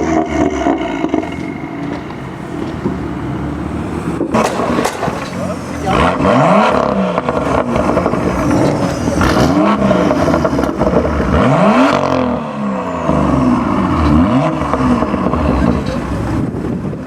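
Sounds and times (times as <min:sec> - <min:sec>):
car engine idling: 0:00.0 - 0:17.0
car engine revving: 0:00.0 - 0:17.0.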